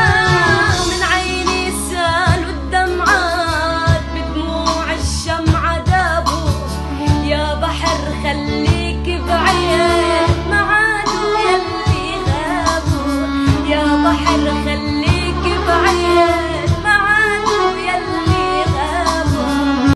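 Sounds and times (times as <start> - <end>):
bass line and beat: 0.0 - 19.9.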